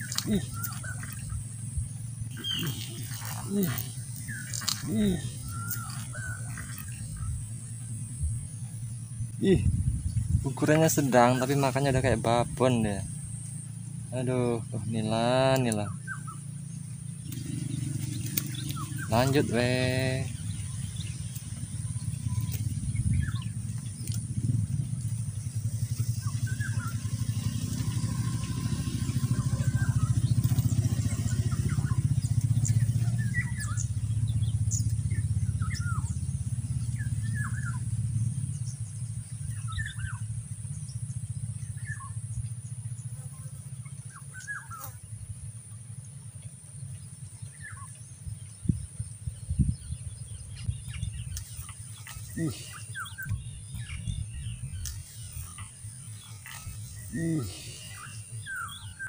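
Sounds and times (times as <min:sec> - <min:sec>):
small birds chirping: 0:00.0 - 0:59.0
vehicle engine drone: 0:00.0 - 0:59.0.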